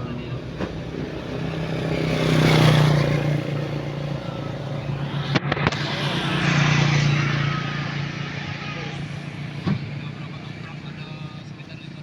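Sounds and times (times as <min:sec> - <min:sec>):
motor vehicle engine running: 0:00.0 - 0:12.0.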